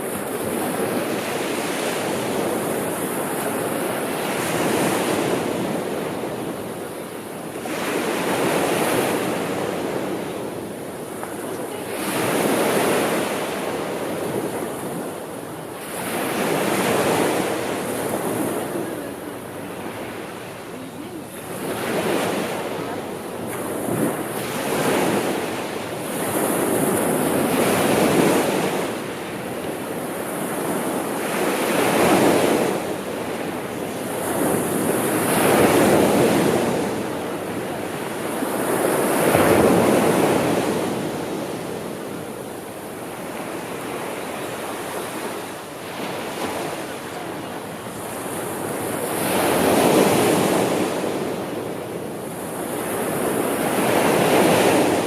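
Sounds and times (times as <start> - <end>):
sea waves breaking on shore: 0.0 - 55.0
wind: 0.0 - 55.0.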